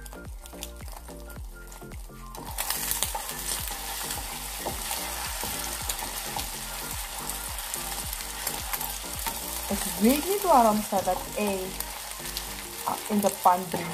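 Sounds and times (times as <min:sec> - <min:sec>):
eggs sizzling in a frying pan: 0:00.0 - 0:13.9.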